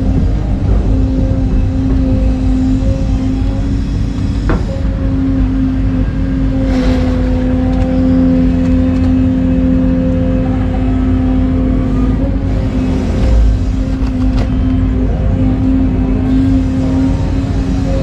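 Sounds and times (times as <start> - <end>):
excavator diesel engine rumbling: 0.0 - 18.0
steady pitched hum: 0.0 - 18.0.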